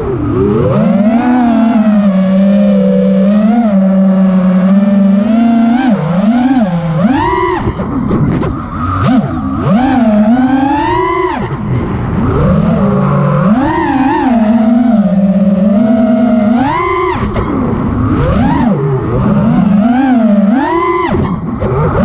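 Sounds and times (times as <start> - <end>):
drone motors and propellers buzzing: 0.0 - 22.0.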